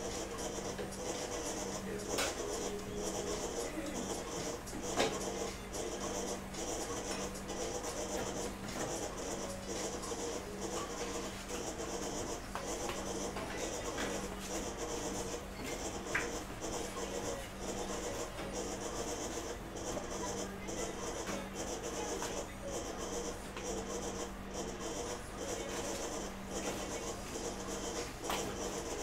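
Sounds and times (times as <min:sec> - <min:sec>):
meat slicer motor hum: 0:00.0 - 0:29.0.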